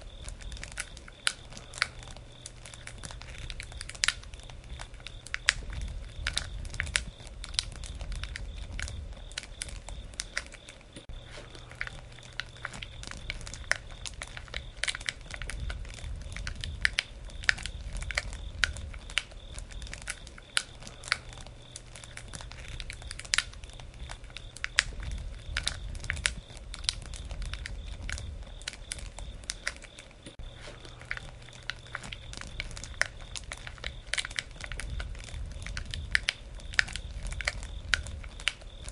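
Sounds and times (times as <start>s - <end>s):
low rumble of flames: 0.0s - 38.9s
wood crackling and popping: 0.0s - 38.9s.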